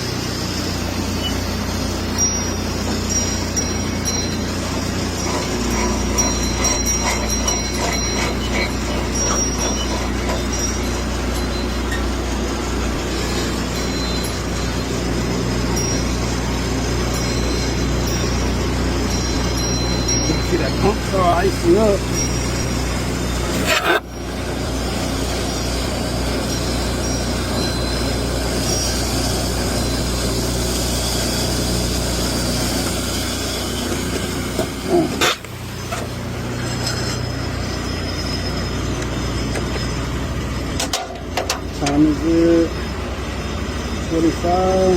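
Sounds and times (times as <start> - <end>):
high whistling tones: 0.0 - 30.1, 34.8 - 40.8
pump engine drone: 0.0 - 44.9.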